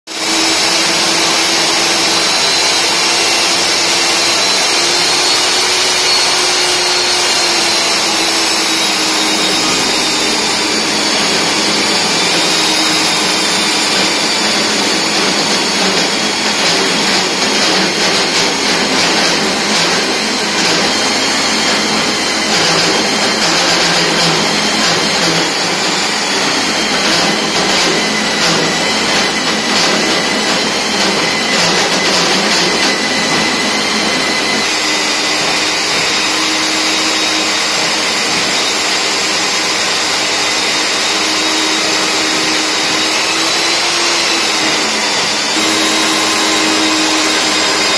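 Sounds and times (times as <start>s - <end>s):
core drill motor whining: 0.1s - 47.9s
drill bit grinding concrete: 0.1s - 47.9s.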